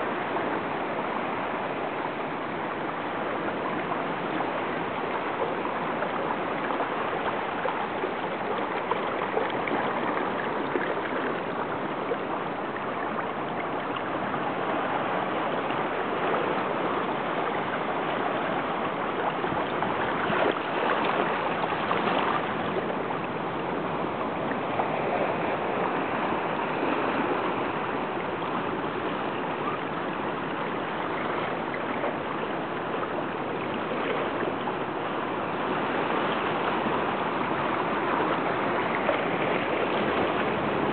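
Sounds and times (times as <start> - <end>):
small waves lapping: 0.0 - 40.9
seawater washing over rocks: 3.1 - 40.9.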